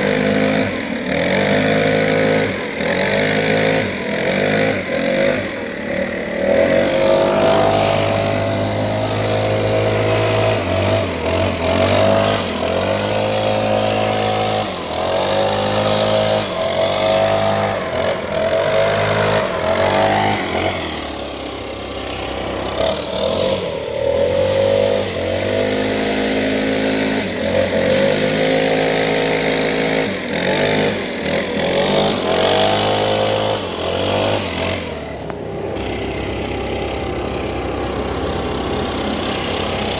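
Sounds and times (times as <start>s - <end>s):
leaf blower engine revving: 0.0s - 39.9s.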